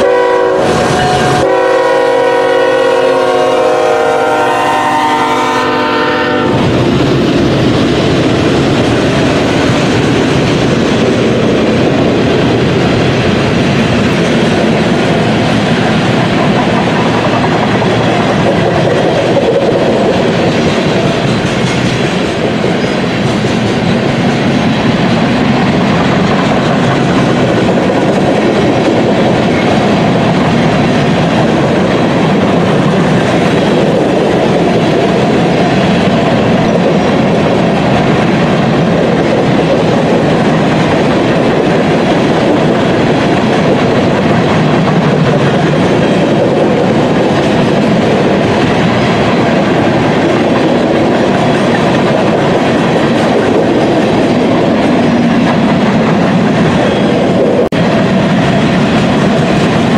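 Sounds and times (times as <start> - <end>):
steel train wheels on rails: 0.0 - 59.9.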